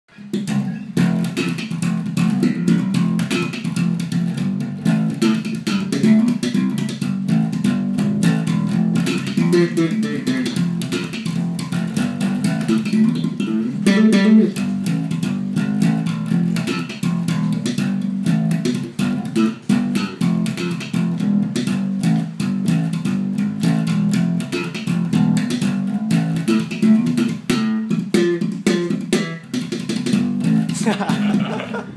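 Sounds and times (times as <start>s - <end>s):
electric bass guitar plucked run: 0.1s - 31.9s.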